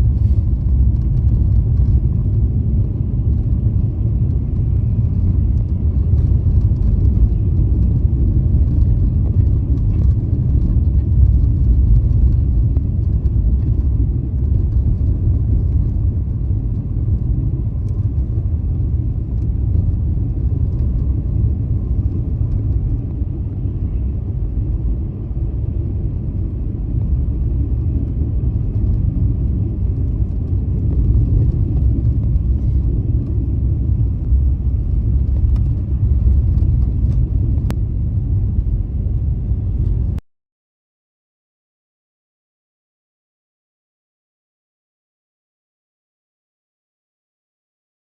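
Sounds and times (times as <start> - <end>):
car engine and tyres rumbling: 0.0 - 40.2.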